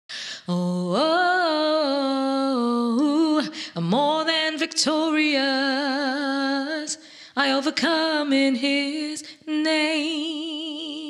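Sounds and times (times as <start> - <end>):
woman singing gospel a cappella: 0.3 - 11.0.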